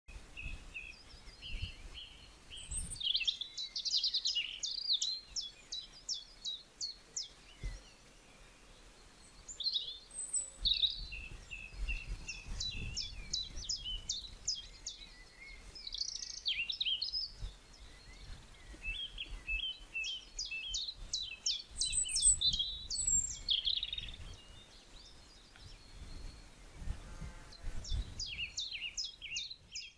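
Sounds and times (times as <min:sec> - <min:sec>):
songbirds chirping and trilling: 0:00.1 - 0:29.9.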